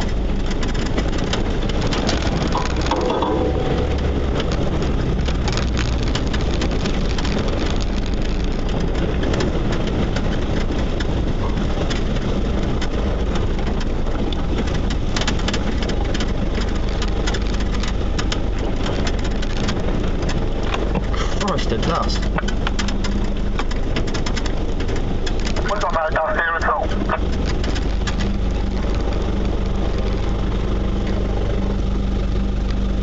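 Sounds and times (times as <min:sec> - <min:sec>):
knocks and rattles over bumps: 0:00.0 - 0:33.0
low engine drone: 0:00.0 - 0:33.0.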